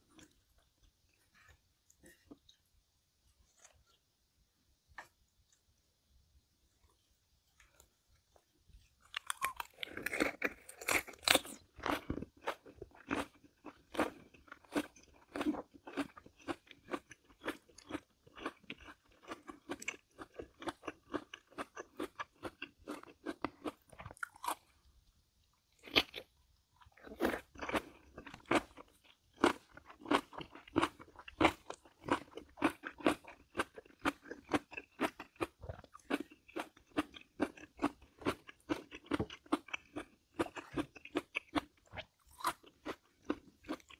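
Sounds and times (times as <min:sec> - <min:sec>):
person chewing crunchy food: 0:00.0 - 0:02.7, 0:06.8 - 0:43.9.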